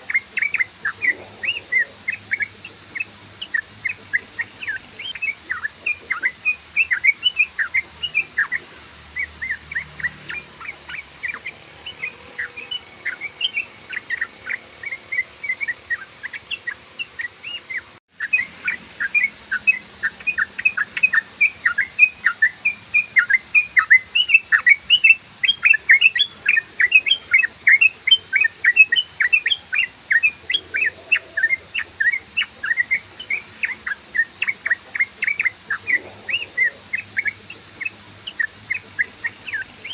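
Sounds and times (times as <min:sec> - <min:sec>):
bulbul singing rapid chirps: 0:00.0 - 0:39.9.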